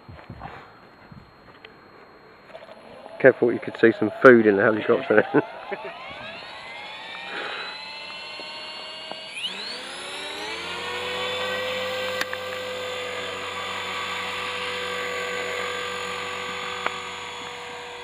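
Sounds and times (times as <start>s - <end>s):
model helicopter motor whine: 0.2s - 18.0s.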